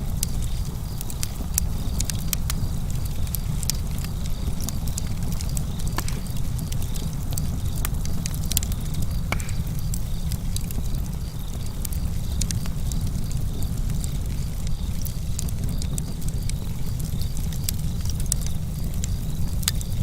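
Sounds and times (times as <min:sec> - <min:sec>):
campfire crackling: 0:00.0 - 0:20.0
low rumble of fire: 0:00.0 - 0:20.0.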